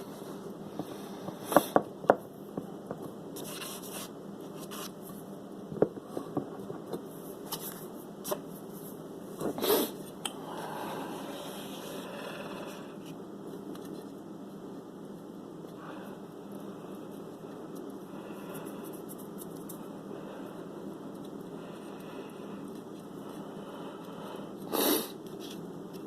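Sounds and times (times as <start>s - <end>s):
steady room hiss: 0.0s - 26.0s.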